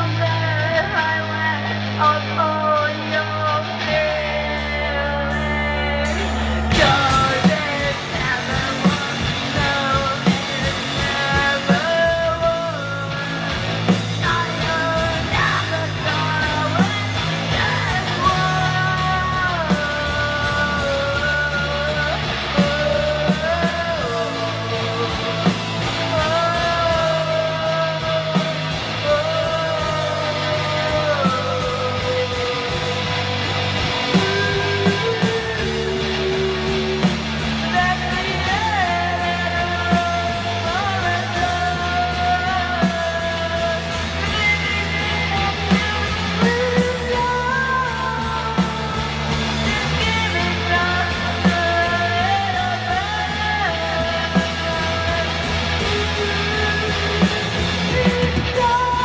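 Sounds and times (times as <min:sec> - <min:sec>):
drums: 0:00.0 - 0:59.0
electric guitar: 0:00.0 - 0:59.0
woman singing: 0:00.0 - 0:59.0.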